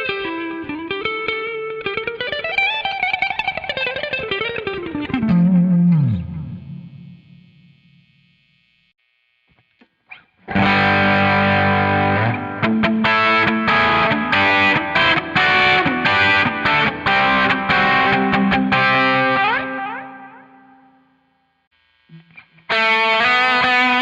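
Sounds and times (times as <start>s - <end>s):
distorted electric guitar chords: 0.0s - 24.0s.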